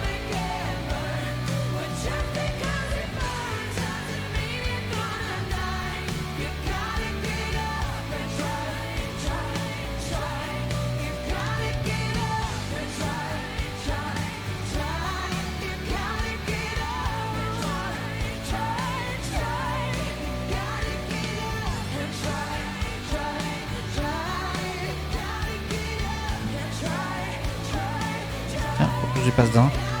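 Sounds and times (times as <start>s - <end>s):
pop song with singing: 0.0s - 30.0s.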